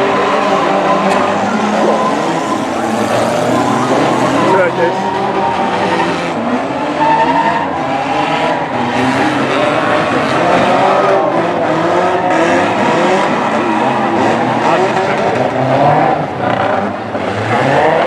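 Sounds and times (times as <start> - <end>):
racing car engines revving: 0.0 - 18.0
tyres on track: 0.0 - 18.0.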